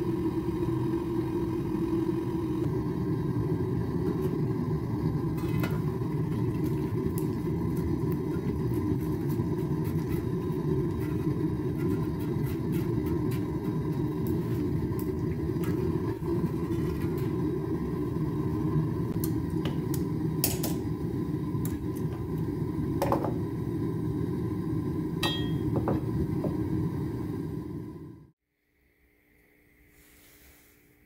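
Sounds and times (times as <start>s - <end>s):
gas forge burner rumbling: 0.0s - 28.4s.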